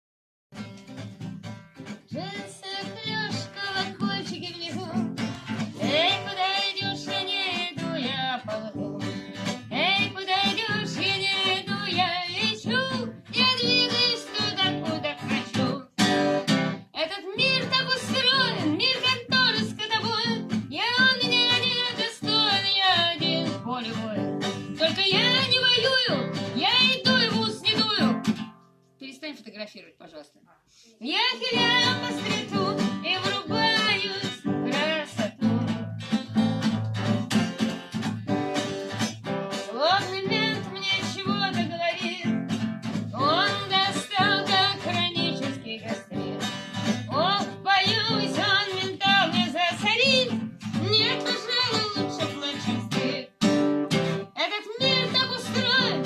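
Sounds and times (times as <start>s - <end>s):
acoustic guitar playing: 0.5s - 29.0s, 31.2s - 56.0s.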